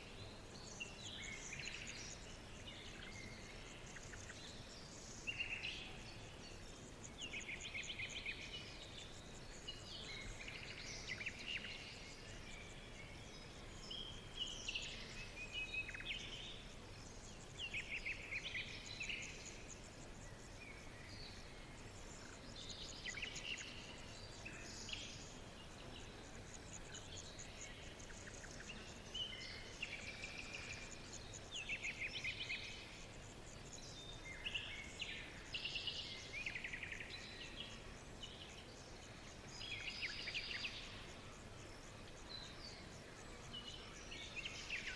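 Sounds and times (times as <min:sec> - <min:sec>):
songbirds singing: 0:00.0 - 0:44.9
steady background hiss: 0:00.0 - 0:44.9.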